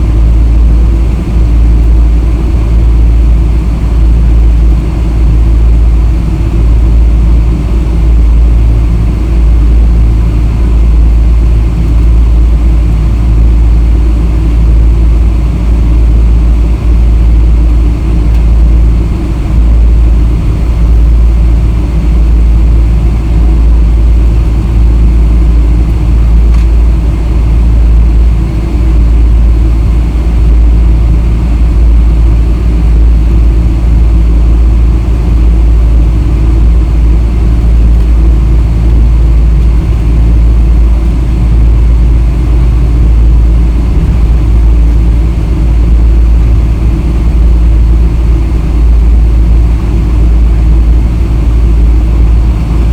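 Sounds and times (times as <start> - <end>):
jet engine cabin rumble: 0.0 - 52.9.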